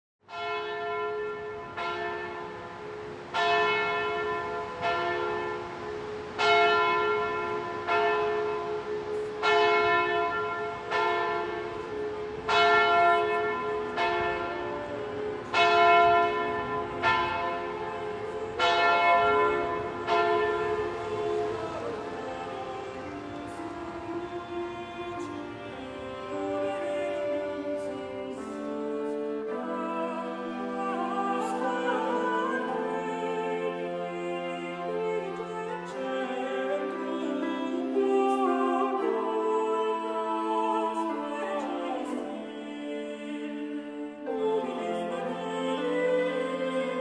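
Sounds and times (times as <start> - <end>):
church bells tolling: 0.3 - 43.3.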